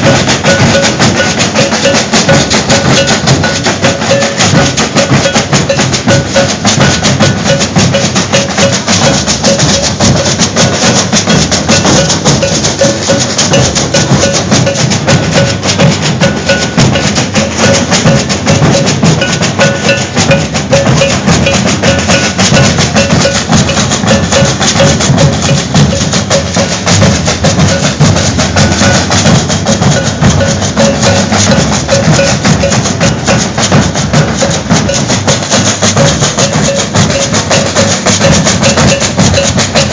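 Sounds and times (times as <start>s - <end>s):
deep drums: 0.0s - 39.9s
shaking gourd rattles: 0.0s - 39.9s
snare drums: 0.0s - 39.9s
ringing bell strokes: 0.4s - 39.9s.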